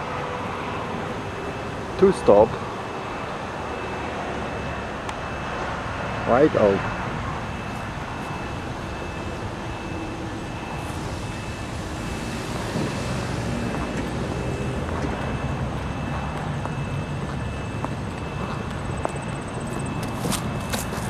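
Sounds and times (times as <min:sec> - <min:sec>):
outdoor traffic noise: 0:00.0 - 0:21.0.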